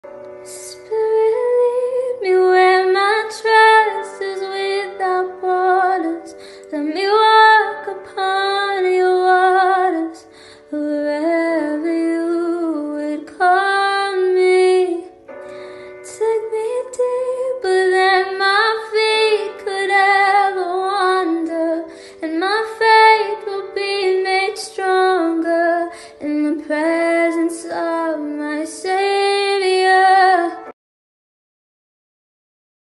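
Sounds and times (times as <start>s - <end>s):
soft backing notes: 0.1s - 30.7s
woman singing slow melody: 0.4s - 30.7s.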